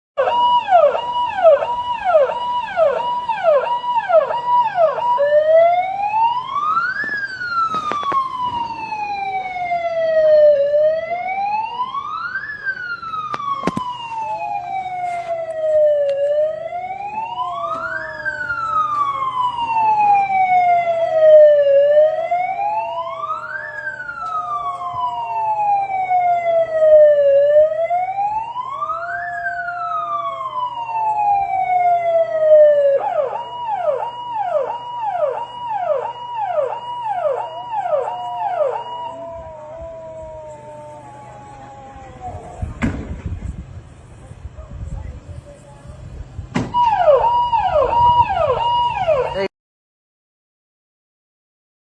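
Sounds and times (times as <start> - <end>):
police siren yelp and wail: 0.2 - 49.5.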